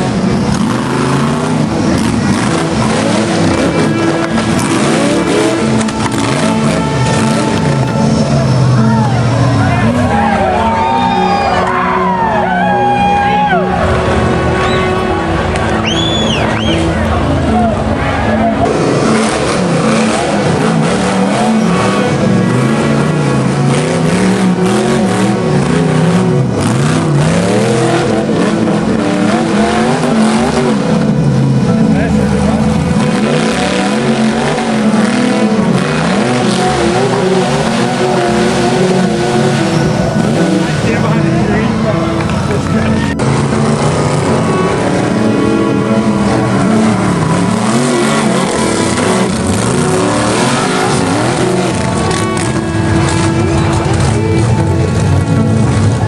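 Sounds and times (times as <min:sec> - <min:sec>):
off-road engine revving: 0:00.0 - 0:10.9, 0:13.7 - 0:56.0.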